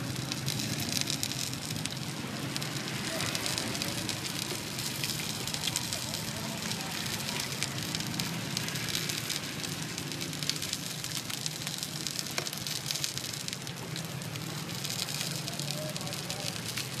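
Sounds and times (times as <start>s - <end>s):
cakes sizzling in frying oil: 0.0s - 17.0s.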